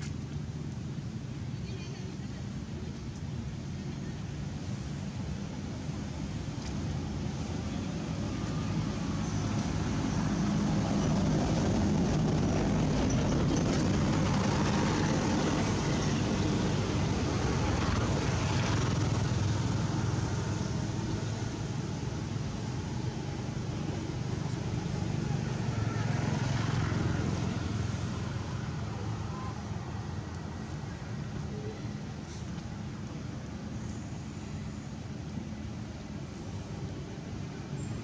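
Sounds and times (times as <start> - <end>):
vehicle engine humming: 6.2 - 38.0.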